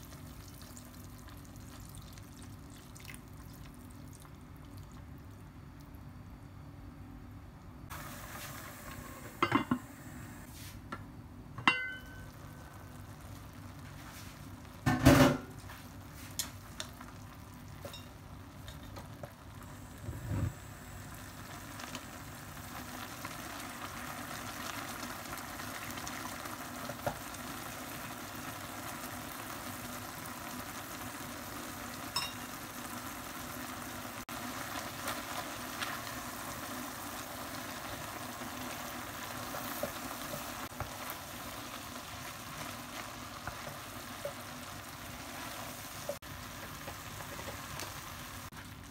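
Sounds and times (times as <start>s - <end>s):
sauce bubbling and sizzling in pot: 0.0s - 6.9s, 11.6s - 48.9s.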